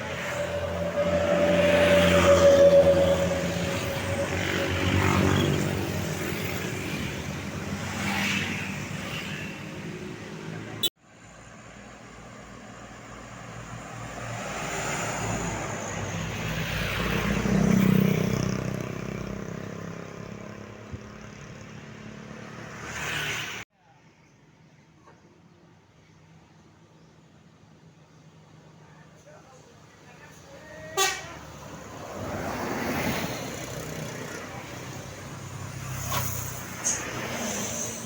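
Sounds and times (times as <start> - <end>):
buses driving past: 0.0 - 23.6, 27.2 - 38.0.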